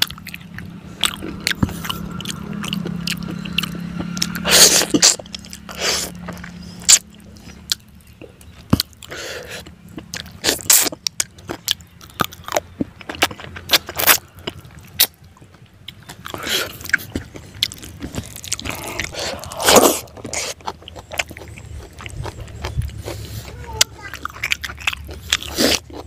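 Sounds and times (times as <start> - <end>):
chewing and eating: 0.0 - 26.0
low steady hum: 0.0 - 26.0.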